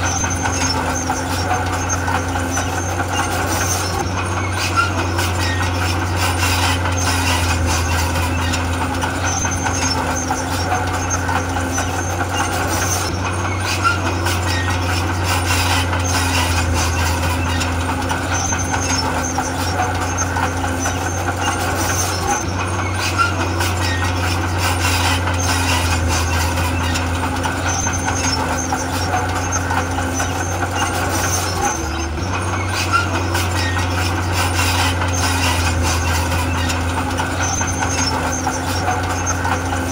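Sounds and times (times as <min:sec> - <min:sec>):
heavy diesel machinery droning: 0:00.0 - 0:39.9.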